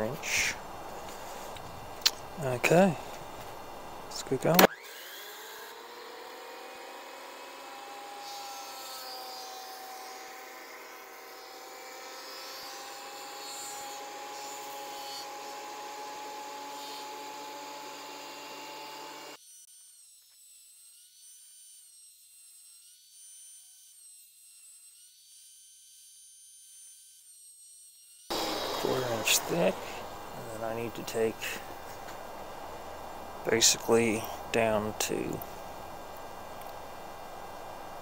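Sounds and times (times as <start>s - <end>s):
thickness planer shaving board: 4.5s - 38.0s.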